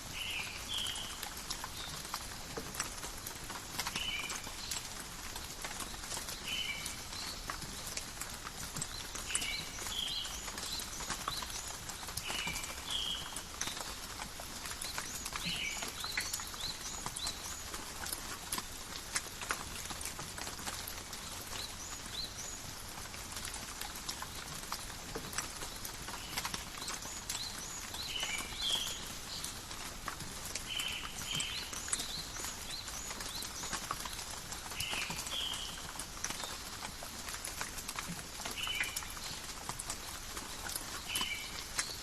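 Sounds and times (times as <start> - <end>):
light rain in forest: 0.0 - 42.0
water drops ticking and dripping: 0.7 - 42.0.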